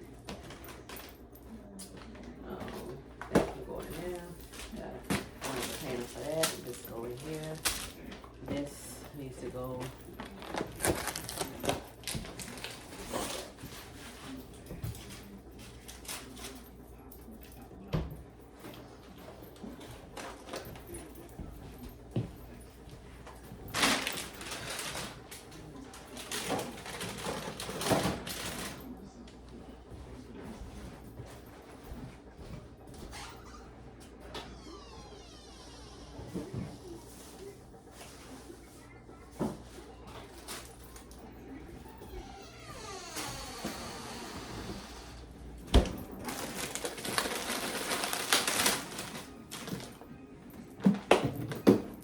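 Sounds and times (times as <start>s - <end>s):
household items rustling and clattering: 0.0s - 34.6s, 36.1s - 52.0s.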